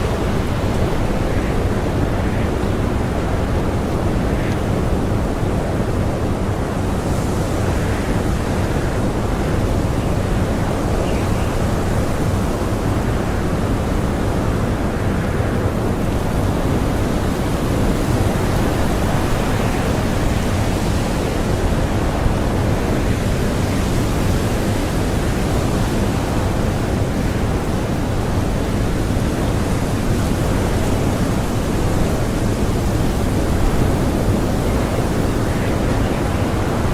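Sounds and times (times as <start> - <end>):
strong blizzard wind: 0.0 - 36.9.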